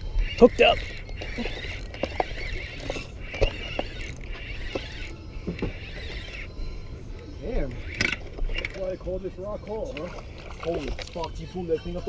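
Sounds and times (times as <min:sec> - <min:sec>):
fishing reel whirring and clicking: 0:00.0 - 0:11.4.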